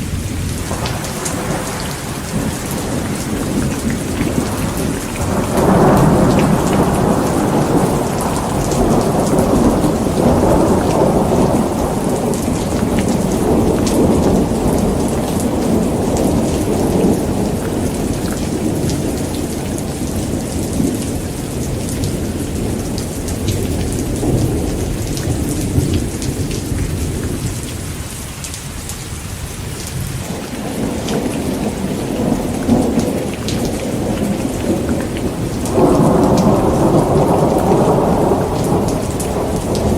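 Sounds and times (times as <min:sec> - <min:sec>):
rolling thunder: 0:00.0 - 0:28.1, 0:29.9 - 0:39.9
heavy rain falling: 0:00.0 - 0:39.9.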